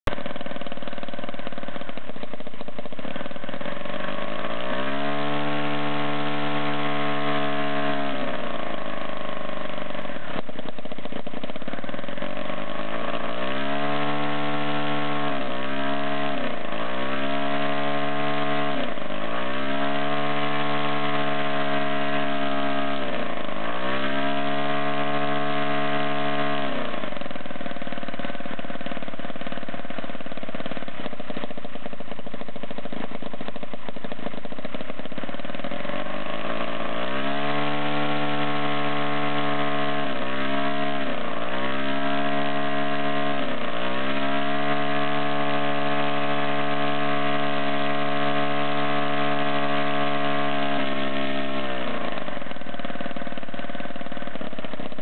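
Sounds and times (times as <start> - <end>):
model aircraft engine revving: 0.1 - 55.0.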